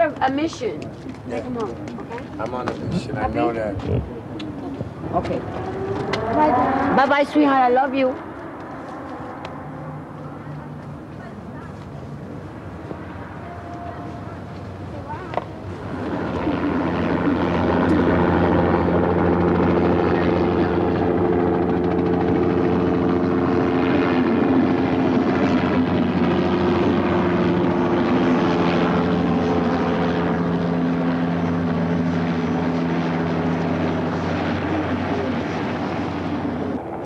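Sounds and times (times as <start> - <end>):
helicopter rotor and engine: 0.0 - 37.0.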